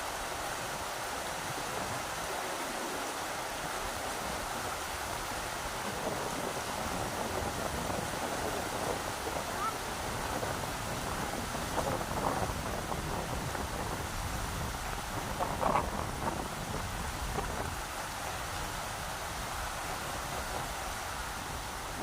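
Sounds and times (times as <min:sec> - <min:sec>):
rushing river water: 0:00.0 - 0:22.0.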